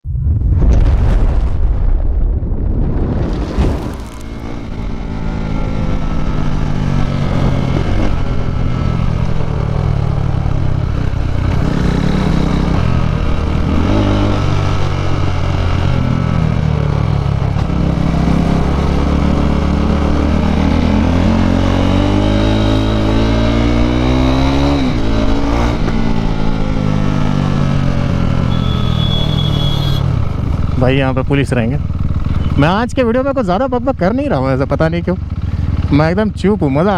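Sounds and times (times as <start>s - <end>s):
motorcycle engine accelerating: 3.3s - 36.9s.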